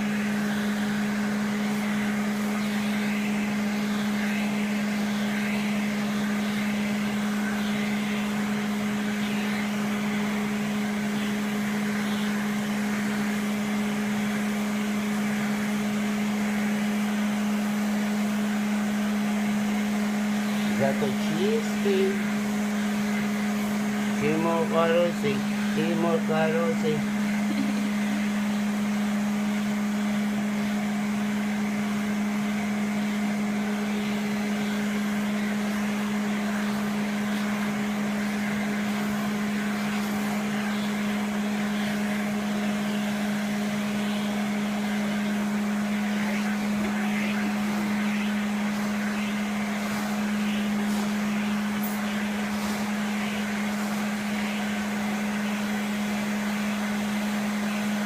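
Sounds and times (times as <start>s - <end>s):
vacuum cleaner humming: 0.0s - 58.0s.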